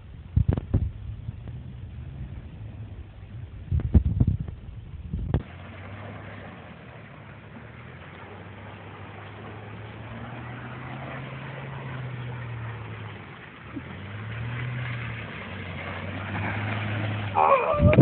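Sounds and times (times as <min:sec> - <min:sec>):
pickup truck engine running: 0:00.0 - 0:18.0.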